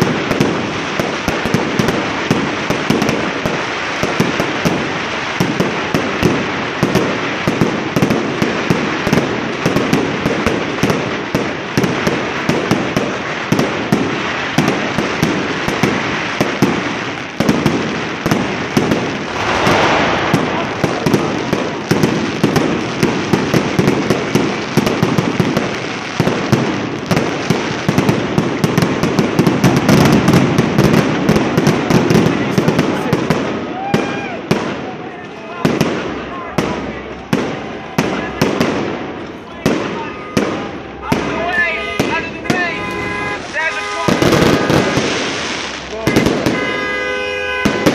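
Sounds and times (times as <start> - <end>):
fireworks and firecrackers banging: 0.0 - 47.9.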